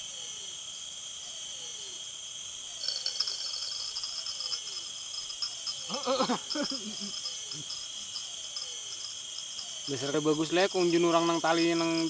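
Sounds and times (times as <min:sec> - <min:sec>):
crickets and insects chirping: 0:00.0 - 0:12.0.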